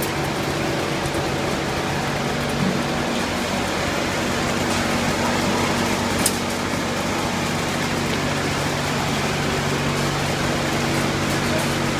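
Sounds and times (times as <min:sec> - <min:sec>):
machine humming: 0:00.0 - 0:11.9.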